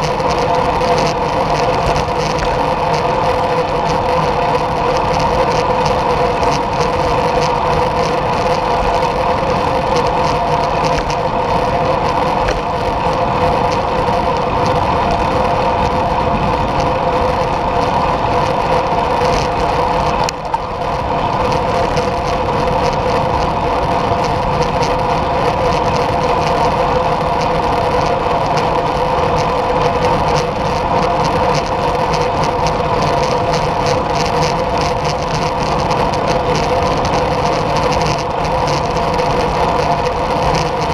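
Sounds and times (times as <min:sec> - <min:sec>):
mid-pitched hum: 0:00.0 - 0:40.9
road rumble: 0:00.0 - 0:40.9
wind buffeting microphone: 0:00.0 - 0:40.9.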